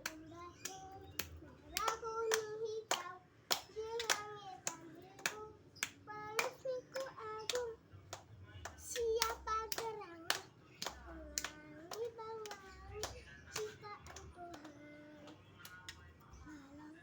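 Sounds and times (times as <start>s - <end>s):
child singing: 0.0s - 7.8s, 8.6s - 15.4s
hand claps: 0.0s - 16.1s.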